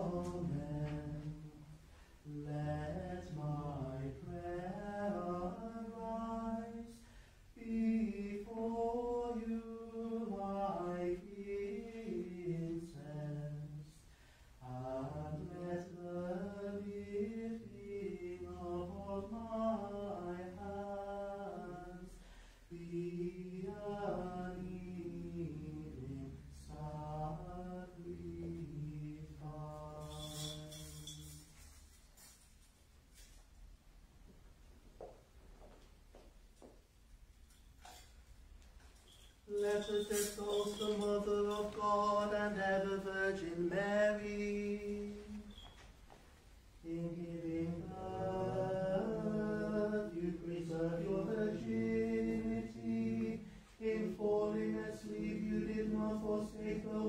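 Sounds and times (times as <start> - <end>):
unaccompanied chant singing: 0.0 - 14.0, 14.6 - 31.4, 39.5 - 45.8, 46.8 - 57.0.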